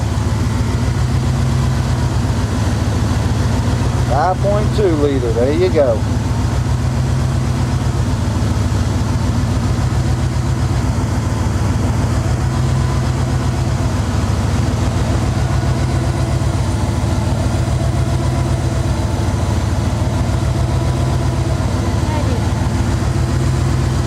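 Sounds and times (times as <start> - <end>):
pickup truck engine idling: 0.0 - 24.0.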